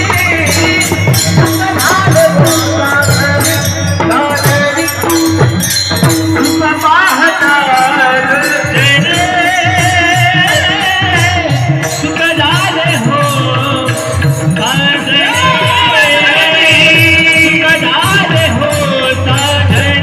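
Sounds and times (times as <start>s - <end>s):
drum beating steady rhythm: 0.0s - 20.0s
man singing: 0.0s - 20.0s
metallic jingling: 0.0s - 20.0s.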